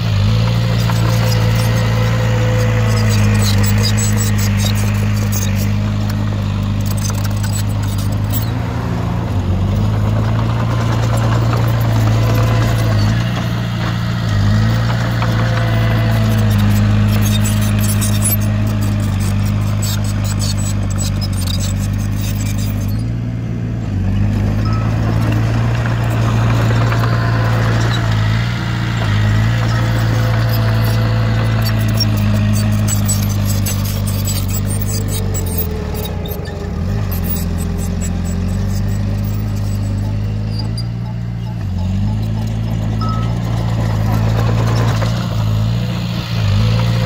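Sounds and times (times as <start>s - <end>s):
heavy machinery diesel engine: 0.0s - 47.0s.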